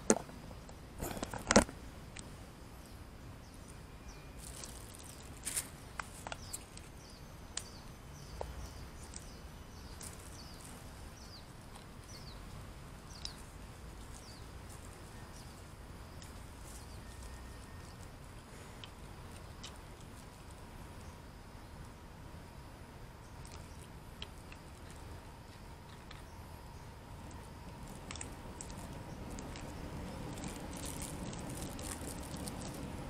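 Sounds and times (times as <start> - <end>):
low background rumble: 0.0 - 33.0
small birds chirping: 2.1 - 22.0, 23.1 - 33.0.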